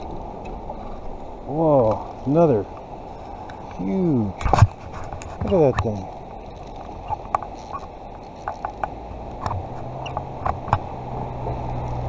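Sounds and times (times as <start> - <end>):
river rushing: 0.0 - 12.0
vehicle engine hum: 0.0 - 12.0.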